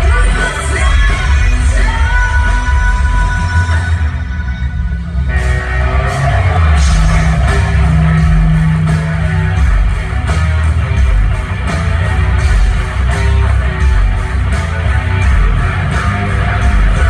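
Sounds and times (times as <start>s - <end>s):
live metal band: 0.0s - 17.0s.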